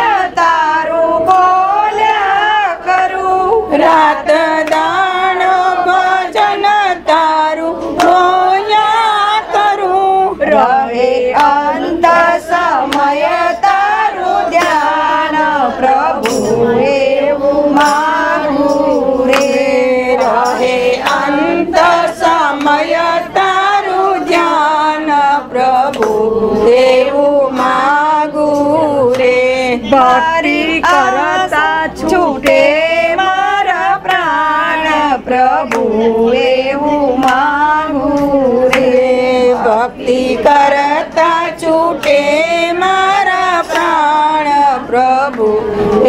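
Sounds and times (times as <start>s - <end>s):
percussion strokes: 0.0s - 46.0s.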